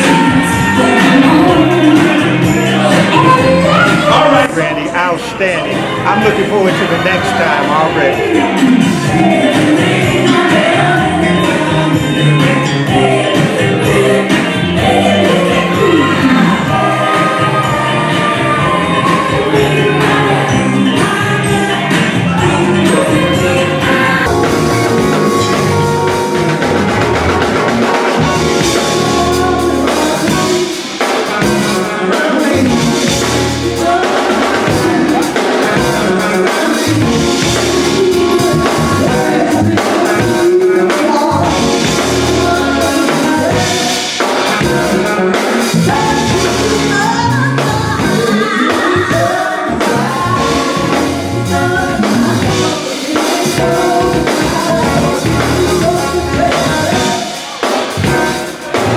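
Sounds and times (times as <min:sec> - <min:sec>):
bass: 0:00.0 - 0:58.9
drum kit: 0:00.0 - 0:58.9
keyboards: 0:00.0 - 0:58.9
lead vocal singing: 0:00.0 - 0:58.9.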